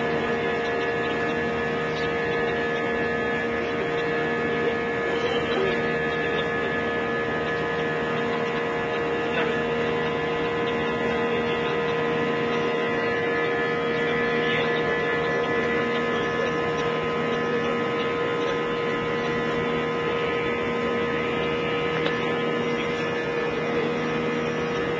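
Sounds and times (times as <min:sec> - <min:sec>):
jet engine cabin drone: 0:00.0 - 0:24.9.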